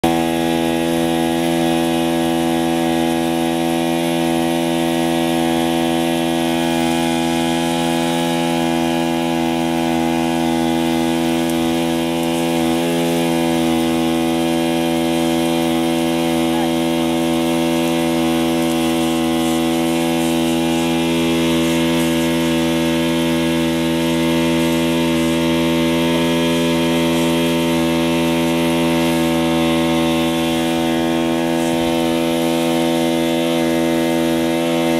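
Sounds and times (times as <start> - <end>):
fire pump engine running: 0.0 - 34.9.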